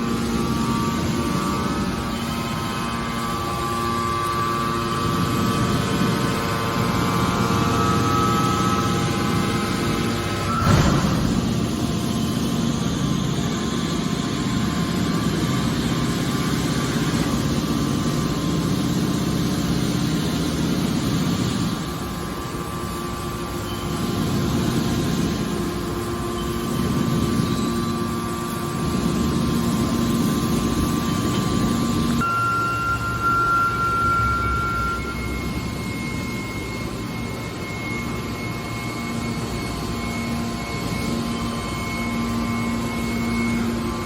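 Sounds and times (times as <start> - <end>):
hydraulic baler humming: 0.0 - 44.0.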